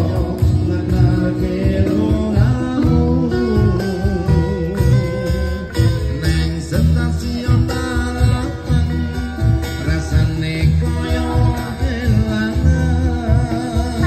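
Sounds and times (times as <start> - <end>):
guitar and bass: 0.0 - 14.0
hand drum beat: 0.0 - 14.0
person singing: 0.0 - 14.0.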